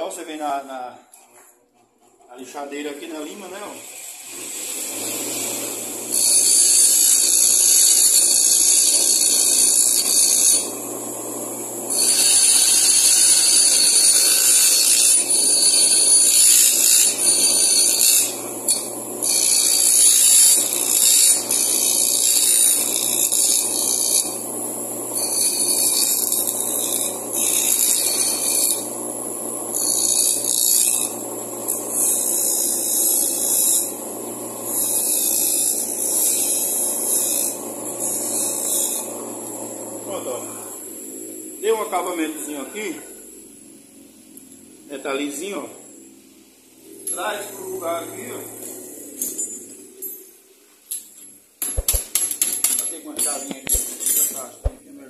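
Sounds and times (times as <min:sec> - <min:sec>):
metal grinding hiss: 0:03.0 - 0:10.9, 0:11.8 - 0:34.0, 0:34.6 - 0:54.8
bench grinder motor hum: 0:03.3 - 0:50.1.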